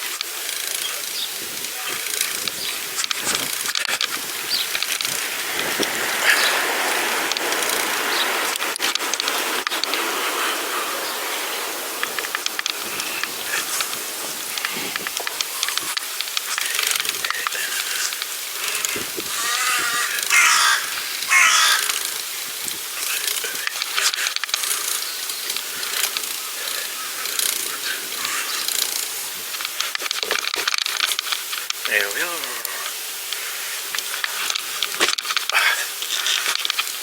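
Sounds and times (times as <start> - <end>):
bike clicks and rattles: 0.0 - 37.0
bike tyres rolling on path: 0.0 - 37.0.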